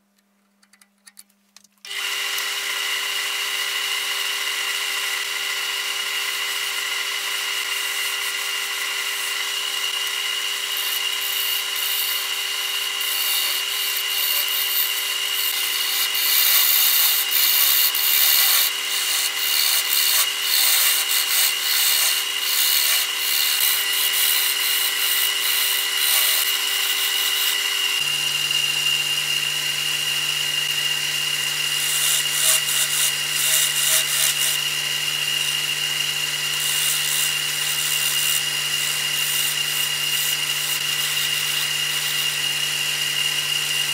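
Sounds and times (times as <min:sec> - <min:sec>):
turning tool cutting wood: 0:01.8 - 0:43.9
lathe motor whine: 0:01.9 - 0:43.9.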